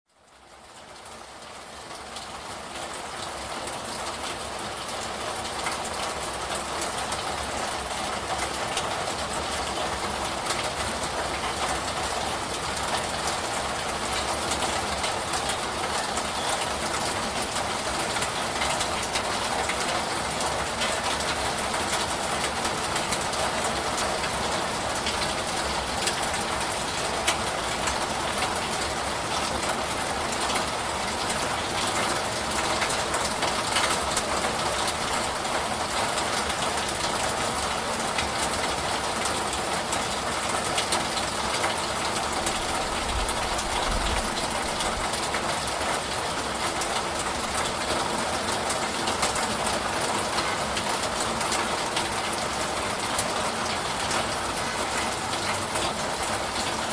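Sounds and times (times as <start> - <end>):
steady rain hiss: 0.2 - 56.9.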